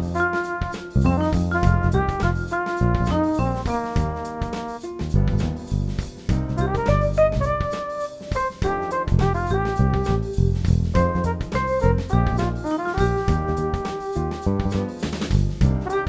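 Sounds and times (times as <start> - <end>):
instrumental jazz music: 0.0 - 16.0.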